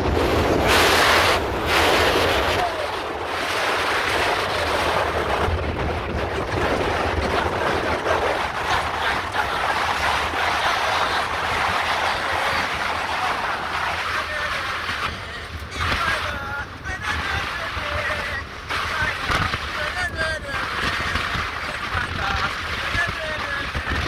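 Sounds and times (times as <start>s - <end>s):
engine and road rumble: 0.0s - 24.0s
wind rushing over microphone: 0.0s - 24.0s.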